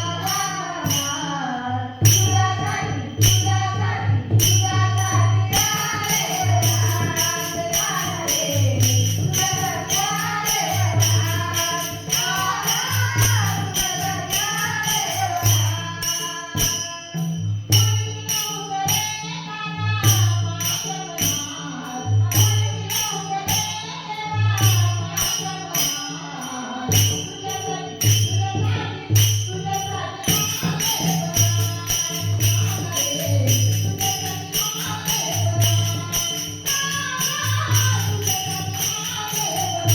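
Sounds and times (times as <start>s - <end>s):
jingling percussion: 0.0s - 39.9s
woman singing: 0.0s - 39.9s.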